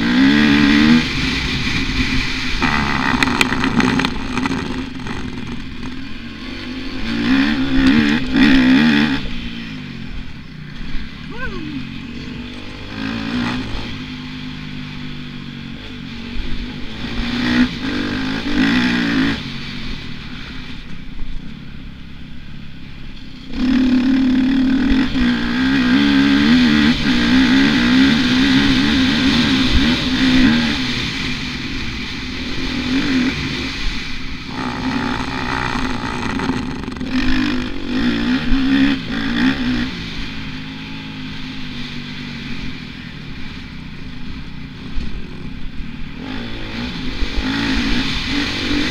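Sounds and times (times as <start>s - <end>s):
motorbike engine revving: 0.0s - 20.9s, 23.0s - 48.9s.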